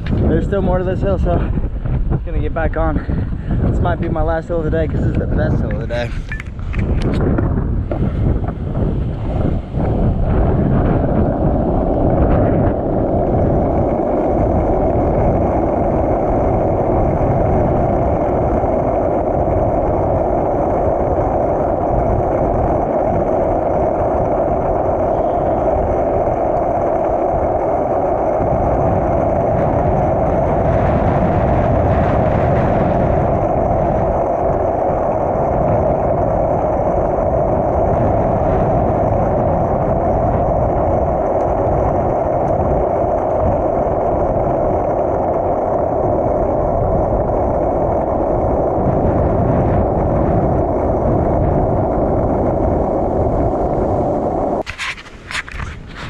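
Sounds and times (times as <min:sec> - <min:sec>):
skateboard wheels rolling on asphalt: 0:00.0 - 0:56.0.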